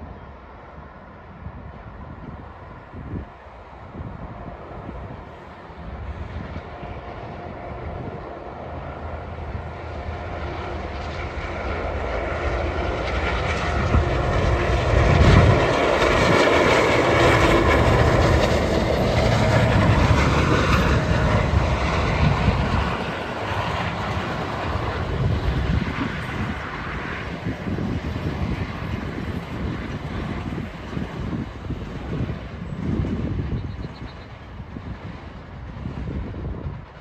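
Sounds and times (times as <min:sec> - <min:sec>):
diesel train engine rumble: 0:00.0 - 0:37.0.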